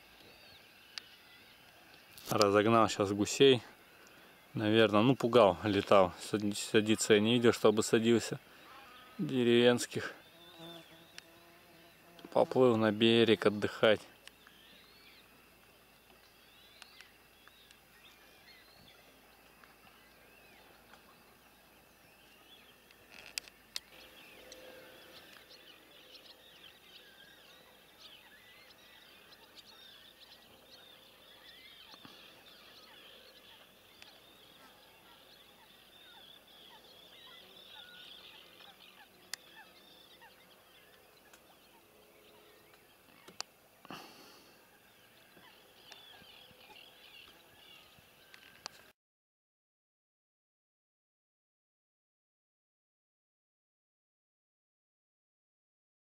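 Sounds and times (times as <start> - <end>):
many birds chattering: 0.0 - 48.9.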